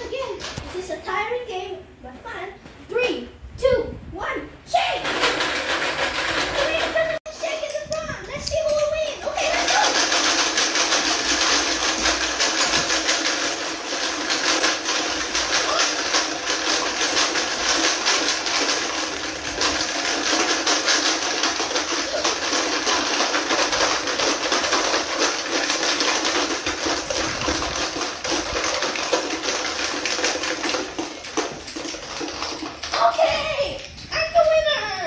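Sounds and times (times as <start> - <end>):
plastic balls rattling in containers: 0.0 - 0.8, 4.9 - 35.0.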